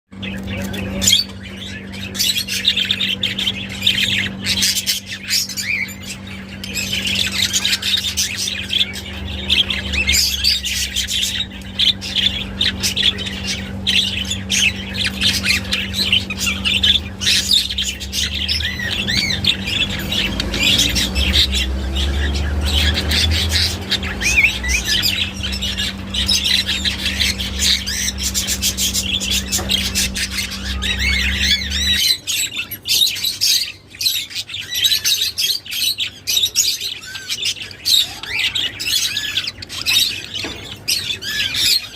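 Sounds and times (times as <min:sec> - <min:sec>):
steady low hum: 0:00.2 - 0:34.5
budgerigars chattering: 0:00.2 - 0:41.9.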